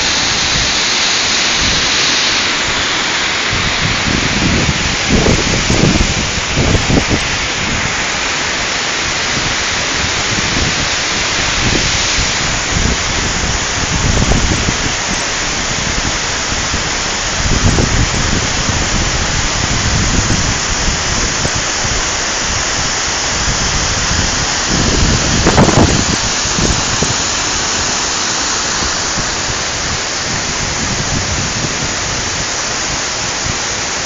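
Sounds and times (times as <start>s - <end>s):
wind bumps on microphone: 0.0s - 33.8s
waterfall roaring: 0.0s - 34.0s.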